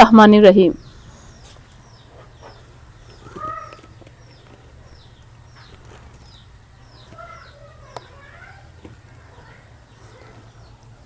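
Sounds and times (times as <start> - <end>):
faint low hum: 0.0 - 11.0
small birds chirping: 0.0 - 11.0
lower bird calls: 0.7 - 11.0.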